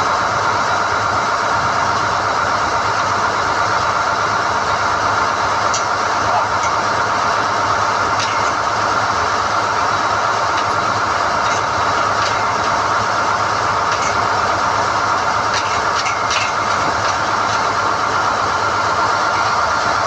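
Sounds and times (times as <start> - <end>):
drilling rig running: 0.0 - 20.0.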